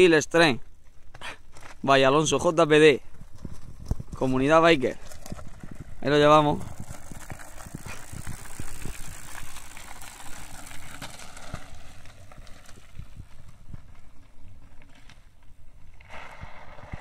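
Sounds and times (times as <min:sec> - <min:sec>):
bike tyres crunching gravel: 0:00.0 - 0:17.0.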